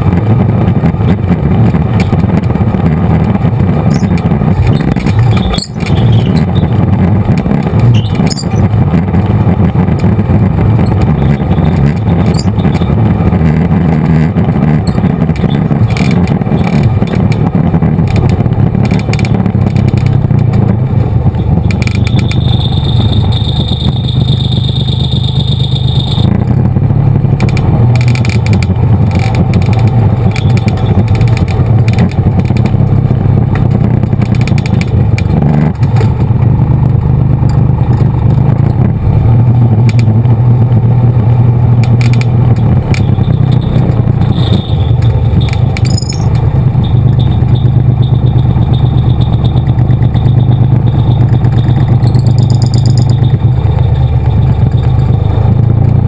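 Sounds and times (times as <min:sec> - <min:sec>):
machine rattling over bumps: 0:00.0 - 0:24.4, 0:27.3 - 0:36.6, 0:41.6 - 0:56.0
atv engine running: 0:00.0 - 0:56.0
high steady whine: 0:00.0 - 0:56.0.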